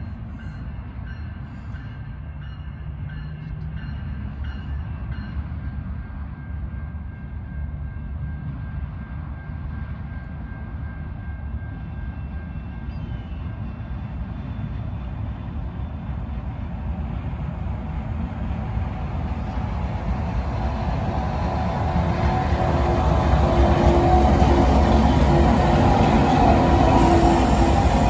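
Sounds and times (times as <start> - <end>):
diesel locomotive engine rumble: 0.0 - 28.0.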